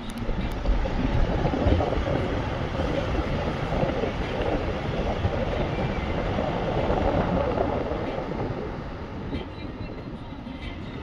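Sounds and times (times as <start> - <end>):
car road noise: 0.0 - 11.0
wind buffeting microphone: 0.0 - 11.0.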